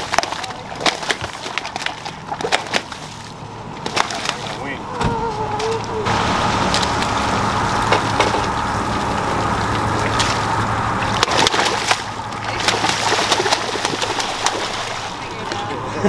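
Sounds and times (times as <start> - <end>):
ray splashing in shallow water: 0.0 - 4.8, 5.6 - 15.9.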